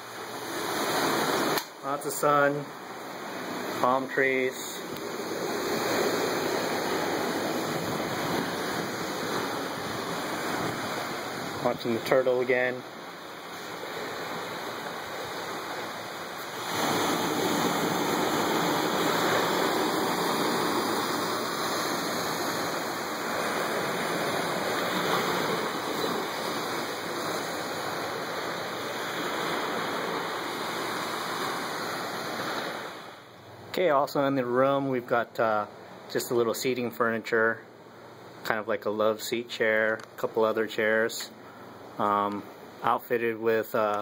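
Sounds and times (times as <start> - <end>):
ocean surf rushing: 0.0 - 37.2.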